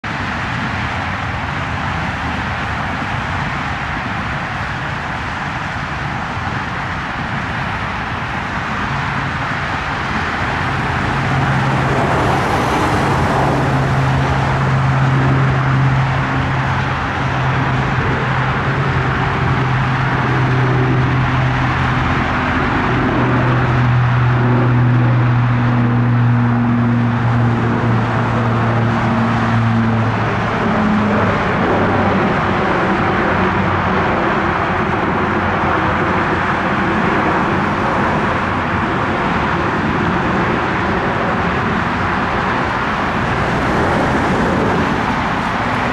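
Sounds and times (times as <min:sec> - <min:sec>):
propeller aircraft drone: 0:00.0 - 0:45.9
rushing noise: 0:00.0 - 0:45.9.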